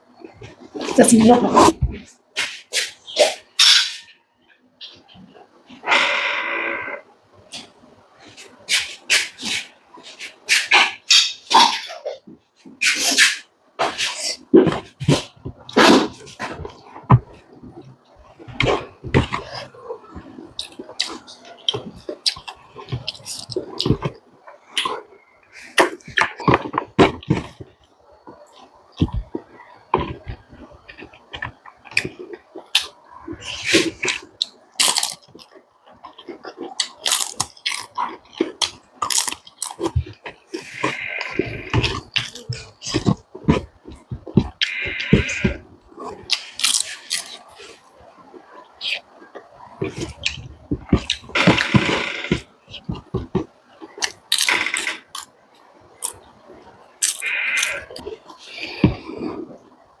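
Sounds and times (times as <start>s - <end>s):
mouth clicks and smacks: 0.0s - 4.1s, 7.5s - 60.0s
wet chewing and crunching: 7.5s - 60.0s.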